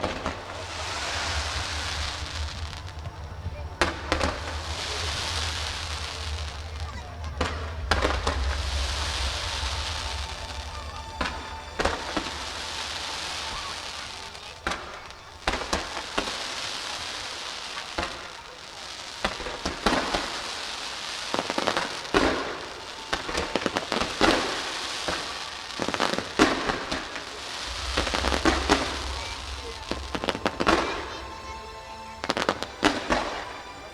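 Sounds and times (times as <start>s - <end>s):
fireworks bangs: 0.0s - 33.9s
fireworks crackling hiss: 0.0s - 33.9s.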